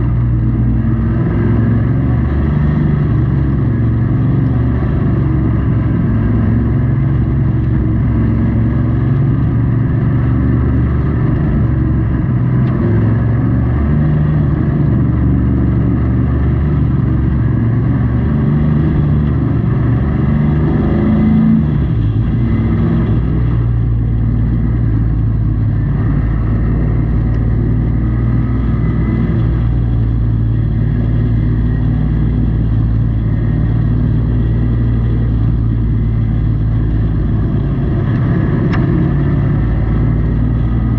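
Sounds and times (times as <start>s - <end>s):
truck engine running hard: 0.0s - 40.9s.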